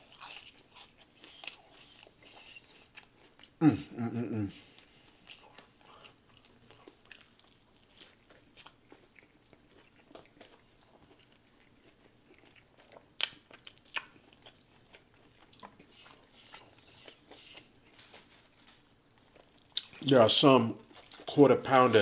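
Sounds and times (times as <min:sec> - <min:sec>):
chewing and crunching food: 0:00.0 - 0:03.6, 0:04.5 - 0:20.0, 0:20.8 - 0:22.0.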